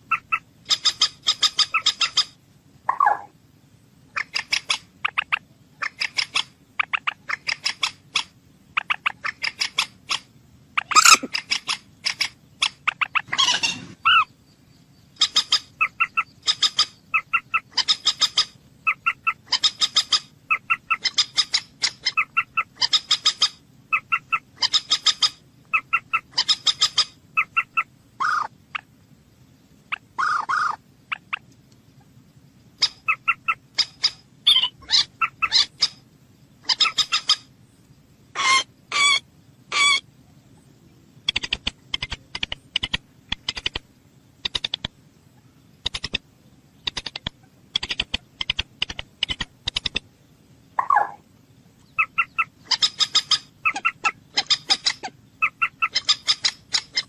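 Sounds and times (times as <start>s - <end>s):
moorhen calling: 0.0s - 3.4s, 4.1s - 28.9s, 29.9s - 32.1s, 32.7s - 36.0s, 36.6s - 37.5s, 38.3s - 43.8s, 50.8s - 57.0s.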